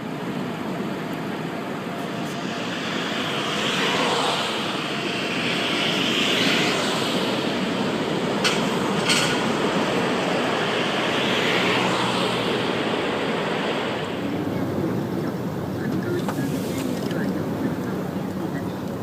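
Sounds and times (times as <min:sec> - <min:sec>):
loud rushing roar: 0:00.0 - 0:19.0.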